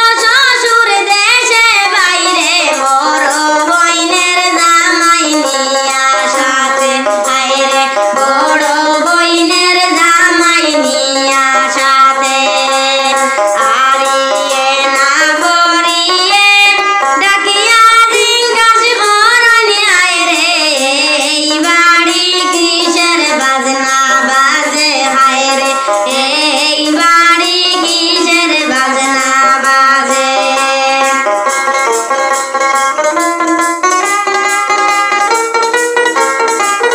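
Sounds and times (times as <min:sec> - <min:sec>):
woman singing: 0:00.0 - 0:31.5
instrumental accompaniment: 0:00.0 - 0:36.9.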